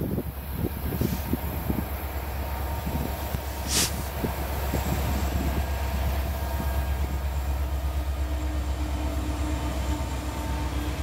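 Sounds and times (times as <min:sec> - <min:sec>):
diesel locomotive engines rumbling: 0:00.0 - 0:11.0.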